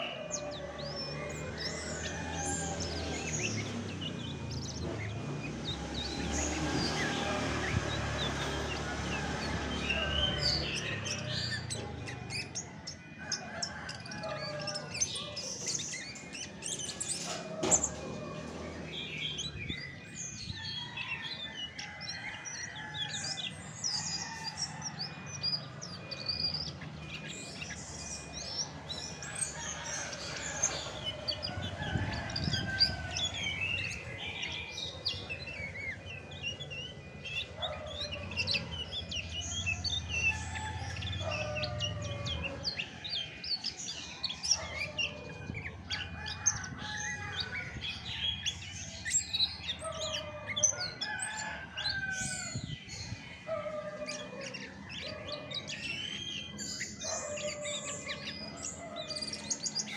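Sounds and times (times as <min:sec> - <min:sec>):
thrush singing: 0:00.0 - 0:59.9.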